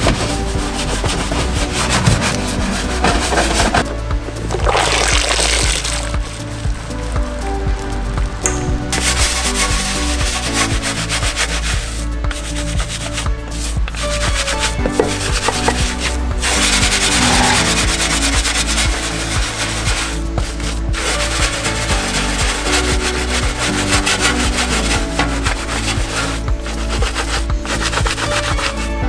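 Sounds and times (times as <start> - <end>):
rough scrubbing noise: 0.0 - 7.6, 8.5 - 29.0
background music with bass line: 0.0 - 29.0.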